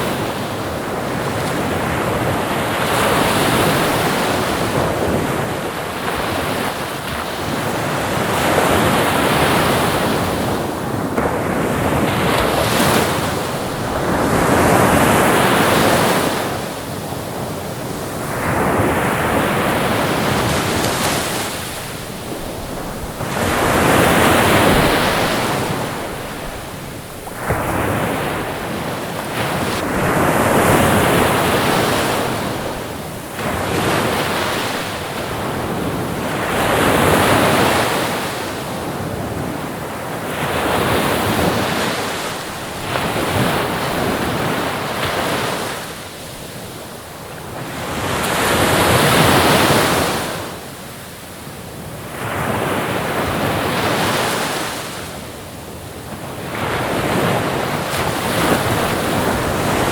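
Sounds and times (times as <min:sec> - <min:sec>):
waves breaking and washing in: 0:00.0 - 0:59.9.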